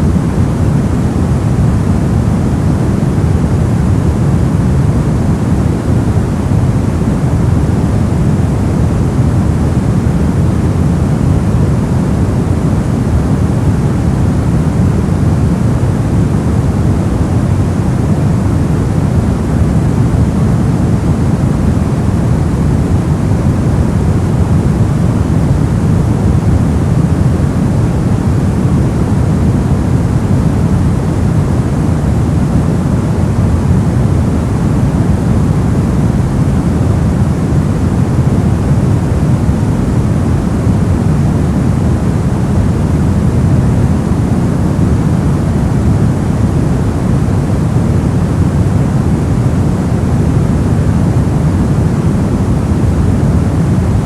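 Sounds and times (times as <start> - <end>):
deep rushing white noise: 0.0 - 54.0.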